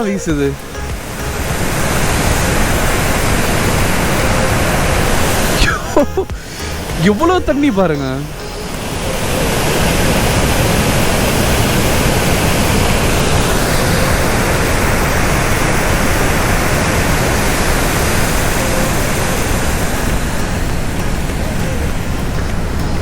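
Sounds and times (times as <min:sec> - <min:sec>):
river water rushing through gates: 0:00.0 - 0:23.0.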